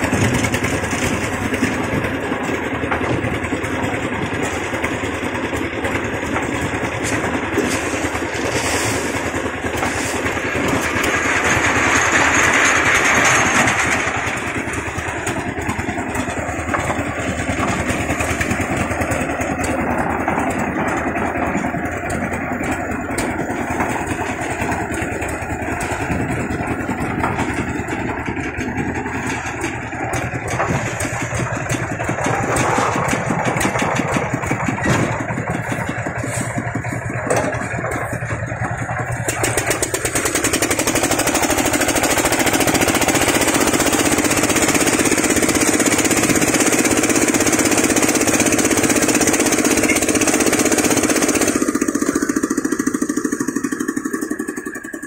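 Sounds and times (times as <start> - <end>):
concrete mixer engine running: 0.0 - 55.0
knocks and clatter: 0.0 - 55.0.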